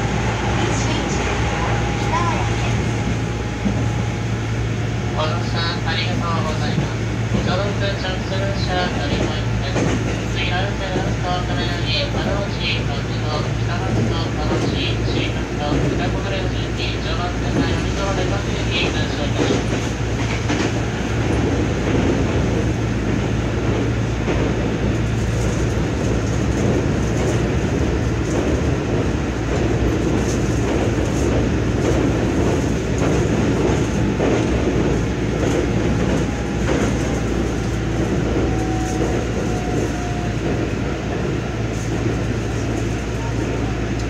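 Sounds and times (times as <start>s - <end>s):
train rolling rumble: 0.0s - 44.0s
rail joint clicks: 5.5s - 44.0s.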